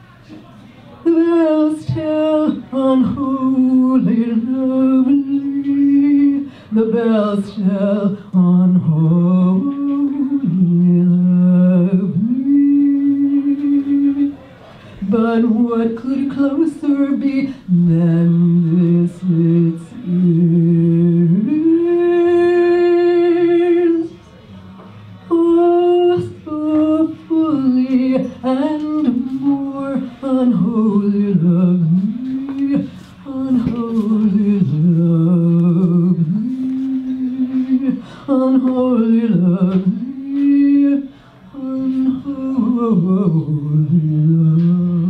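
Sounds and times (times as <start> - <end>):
woman singing unaccompanied: 1.0 - 24.2, 25.3 - 45.0.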